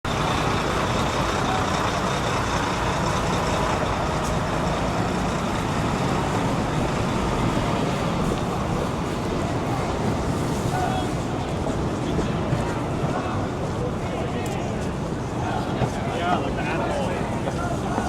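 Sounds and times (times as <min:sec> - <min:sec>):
city street traffic roar: 0:00.0 - 0:18.0.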